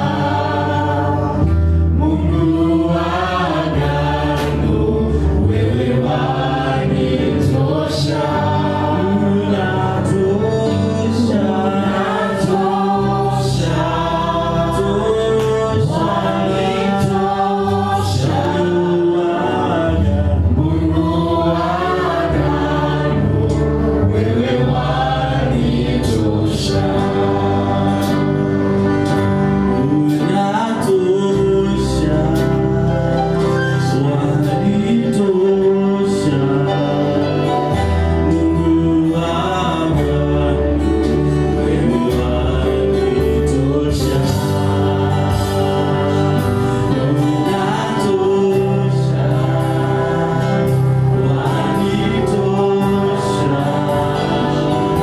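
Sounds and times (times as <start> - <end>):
acoustic guitar strummed and picked: 0.0 - 55.0
person singing: 0.0 - 55.0.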